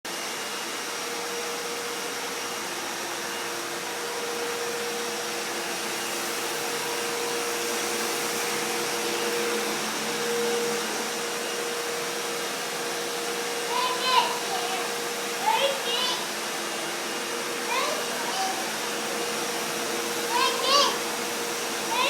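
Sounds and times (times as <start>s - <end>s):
vacuum cleaner running: 0.1s - 22.0s.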